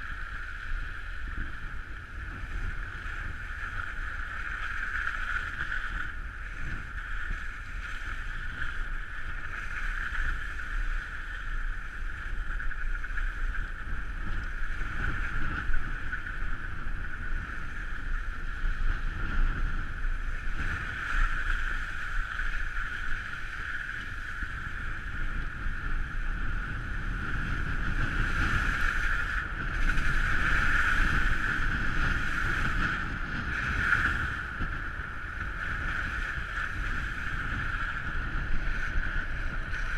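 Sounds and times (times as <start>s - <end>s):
wind buffeting on camera: 0.0s - 39.9s.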